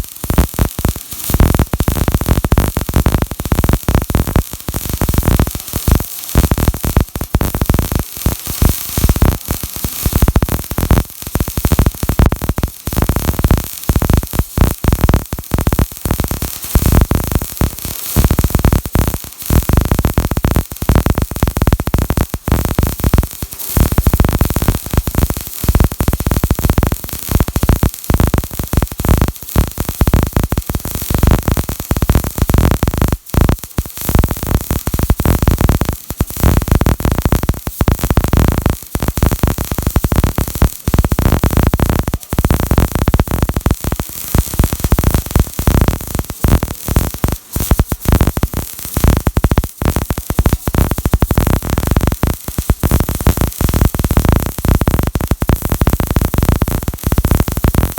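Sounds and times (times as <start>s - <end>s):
welding arc crackle and hiss: 0.0s - 57.9s.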